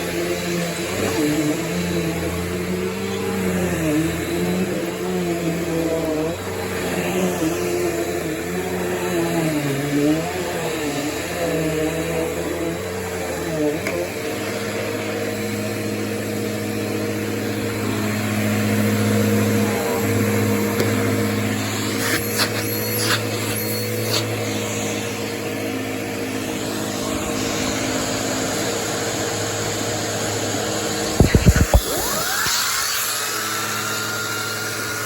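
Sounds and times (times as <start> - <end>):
vacuum cleaner running on carpet: 0.0 - 35.0.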